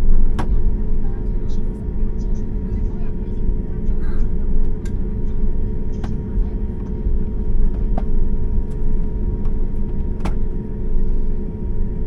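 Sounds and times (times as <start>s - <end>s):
vehicle interior rumble and hum: 0.0s - 12.0s.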